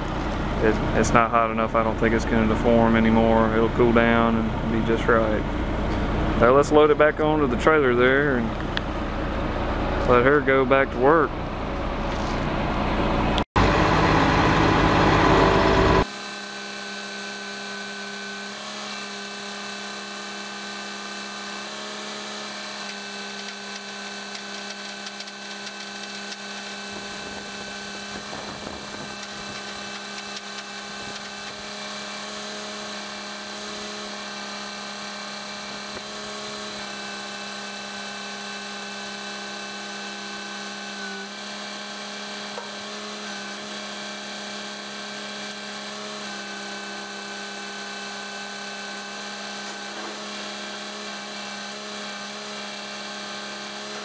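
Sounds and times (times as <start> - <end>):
crane engine and hydraulic pump drone: 0.0 - 54.0.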